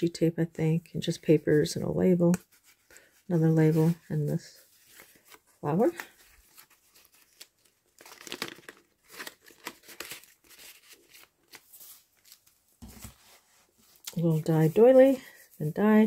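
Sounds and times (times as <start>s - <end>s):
paper rustling and crinkling: 2.4s - 16.0s.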